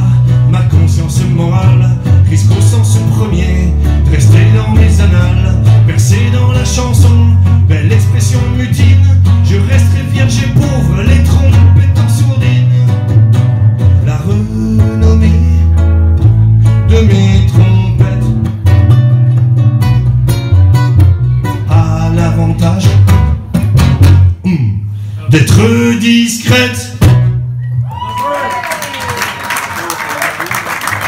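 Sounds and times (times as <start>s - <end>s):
plucked and strummed guitar: 0.0s - 24.4s, 26.5s - 27.8s
bass guitar line: 0.0s - 28.3s.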